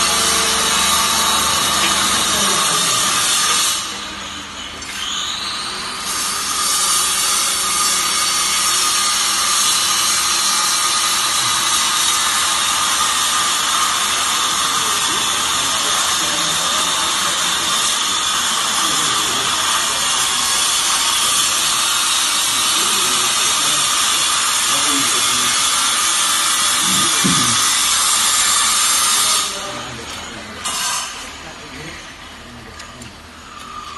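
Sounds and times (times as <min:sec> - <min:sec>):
hydraulic motor whine: 0:00.0 - 0:30.3.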